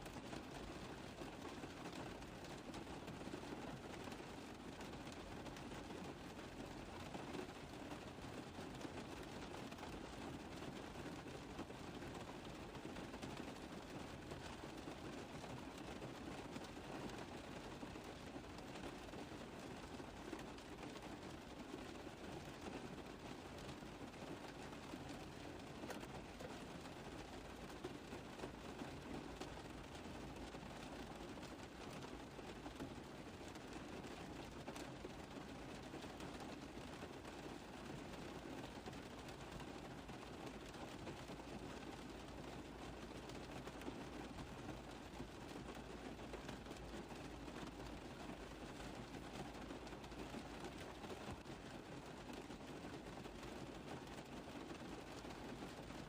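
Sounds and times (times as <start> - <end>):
rain pattering on car roof: 0.0 - 56.0.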